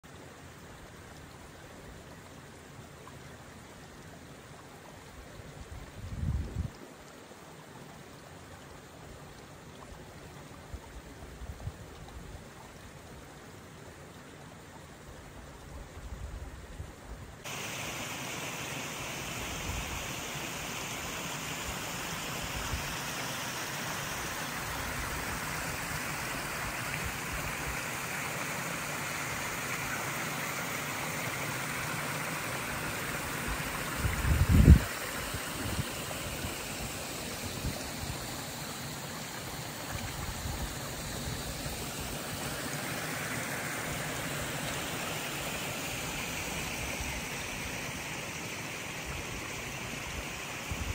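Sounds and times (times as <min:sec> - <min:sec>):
creek water running over rocks: 0:00.0 - 0:50.9.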